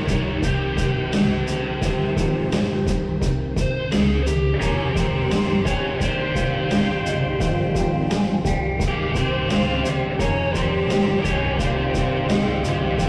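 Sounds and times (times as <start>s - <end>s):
slowed reverb-heavy guitar music: 0.0s - 13.0s
steady sharp beat: 0.0s - 13.0s.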